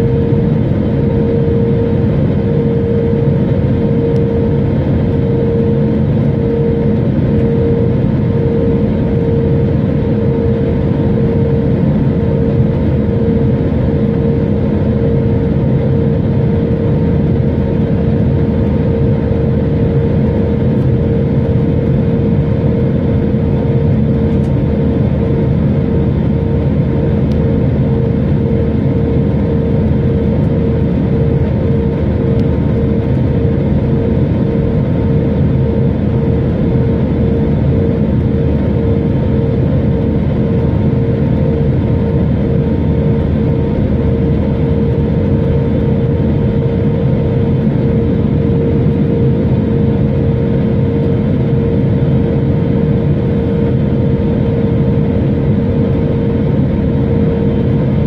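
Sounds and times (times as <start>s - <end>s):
constant cabin hum: 0.0s - 58.0s
engine and airflow rush: 0.0s - 58.0s.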